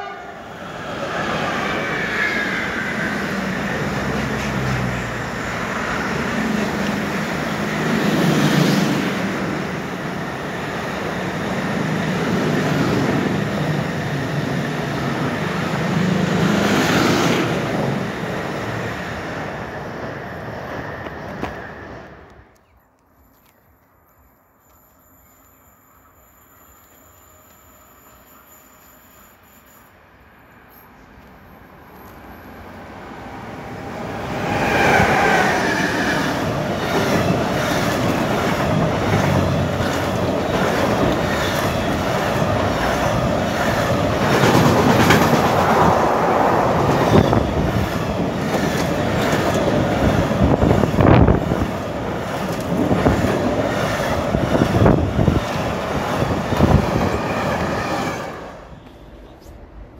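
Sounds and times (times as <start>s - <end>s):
freight train rumbling past: 0.0s - 22.5s, 31.4s - 59.9s.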